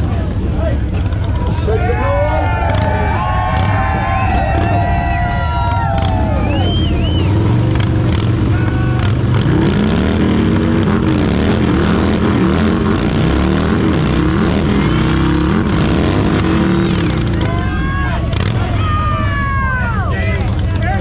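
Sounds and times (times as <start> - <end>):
motorcycle engine revving: 2.4 - 21.0.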